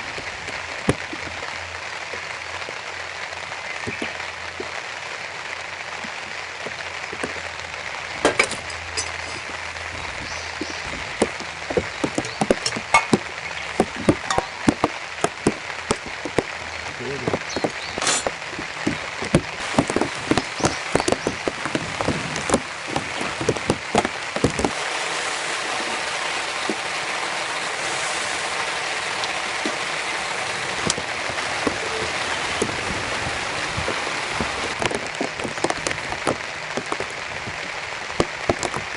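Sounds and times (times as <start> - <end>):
rain falling: 0.0 - 38.9
raindrops tapping a surface: 0.0 - 38.9.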